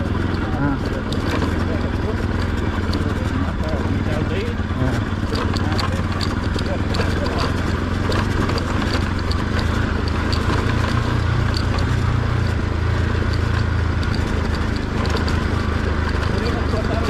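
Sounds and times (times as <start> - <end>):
gravel ticks and rattles: 0.0 - 17.0
motorcycle engine droning: 0.0 - 17.0.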